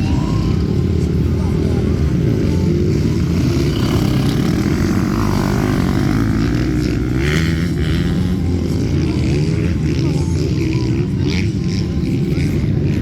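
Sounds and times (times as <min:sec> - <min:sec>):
motocross bike engines droning: 0:00.0 - 0:13.0.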